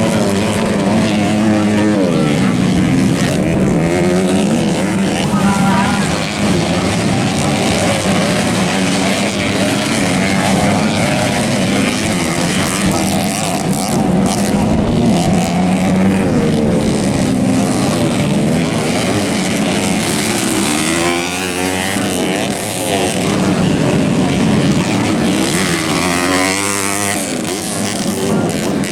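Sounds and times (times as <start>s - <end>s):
dirt bike engines revving: 0.0s - 28.9s.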